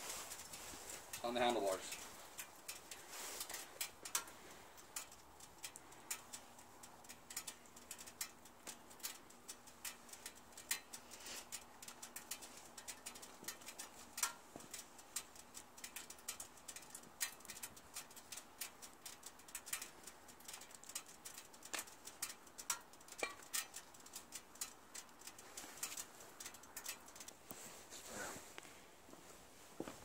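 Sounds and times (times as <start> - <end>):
ratchet strap buckles clicking: 1.8 - 27.4.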